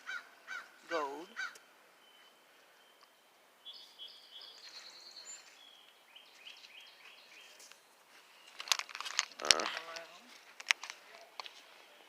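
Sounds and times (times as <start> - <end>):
small birds chirping and singing: 0.0 - 10.2.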